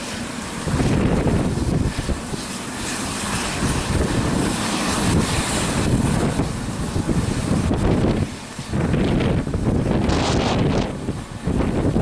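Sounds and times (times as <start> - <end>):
helicopter turbine and rotor: 0.0 - 12.0
wind buffeting microphone: 0.0 - 12.0.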